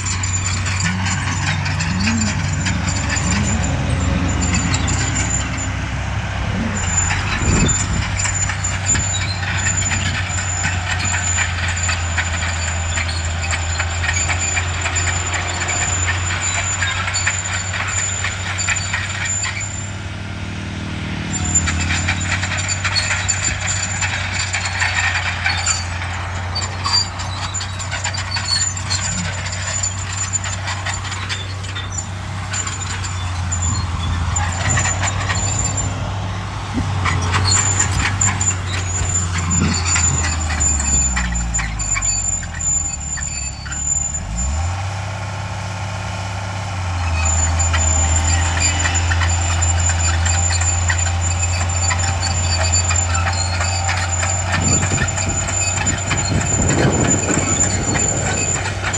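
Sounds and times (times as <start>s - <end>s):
bulldozer diesel engine under load: 0.0s - 58.9s
clattering knocks of machine working dirt: 0.0s - 58.9s.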